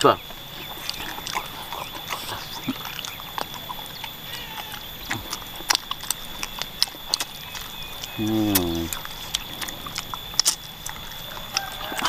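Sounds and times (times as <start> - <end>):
chewing and crunching bones: 0.0 - 12.0
sharp mouth clicks: 0.2 - 12.0.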